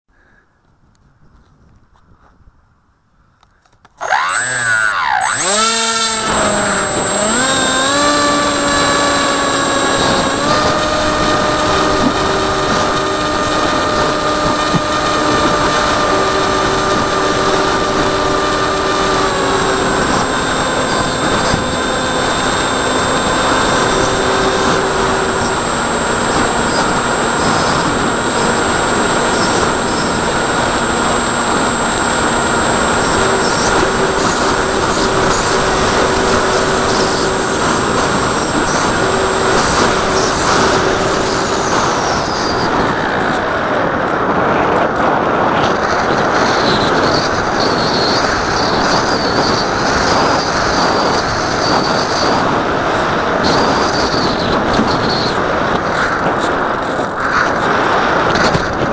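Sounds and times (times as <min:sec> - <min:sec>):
electric motor whine: 0:04.0 - 0:58.9.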